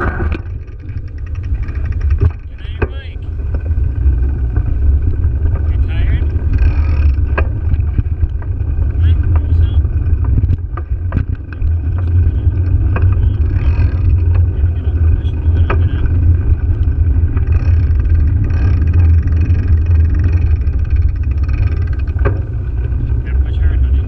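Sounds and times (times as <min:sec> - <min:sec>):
wind and road rumble: 0:00.0 - 0:24.0.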